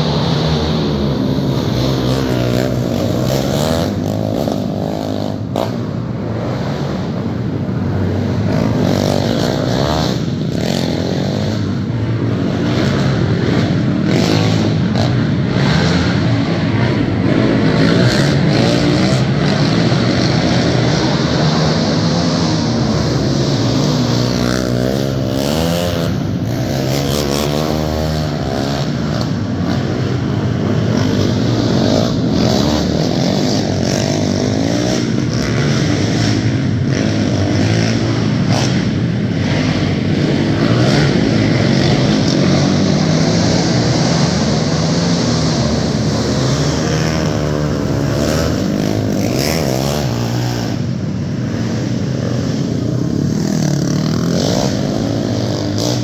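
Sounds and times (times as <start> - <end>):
quad engines revving: 0.0 - 56.0.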